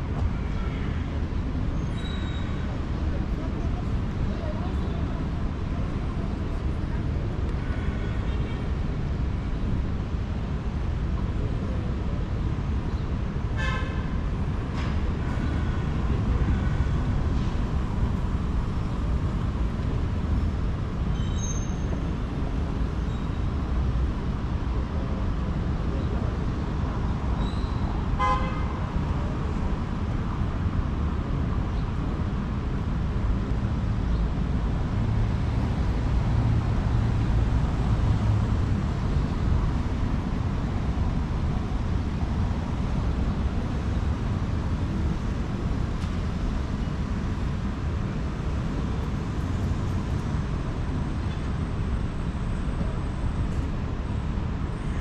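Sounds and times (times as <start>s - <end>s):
city traffic rumble: 0.0s - 55.0s.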